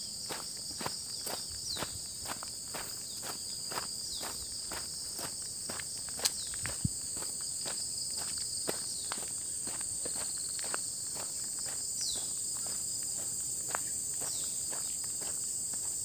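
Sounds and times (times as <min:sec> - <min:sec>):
footsteps on dirt path: 0:00.0 - 0:16.0
insects singing: 0:00.0 - 0:16.0.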